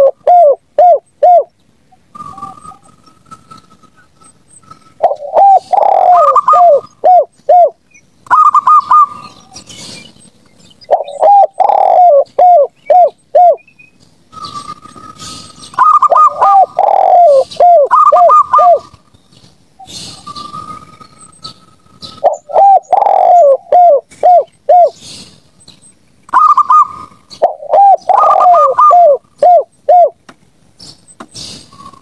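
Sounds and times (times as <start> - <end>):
doves cooing: 0.0 - 10.0, 10.9 - 13.6, 14.3 - 19.1, 19.8 - 25.4, 26.3 - 30.2.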